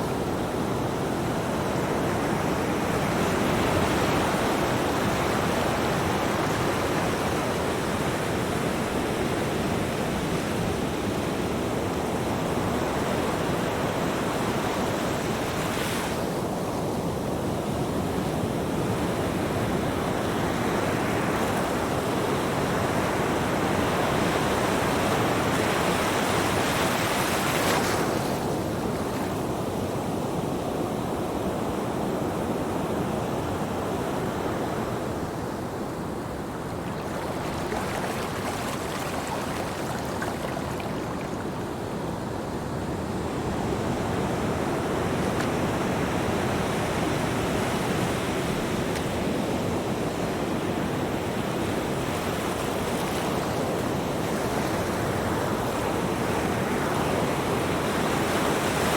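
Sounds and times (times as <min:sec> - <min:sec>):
waves breaking on beach: 0:00.0 - 0:58.9.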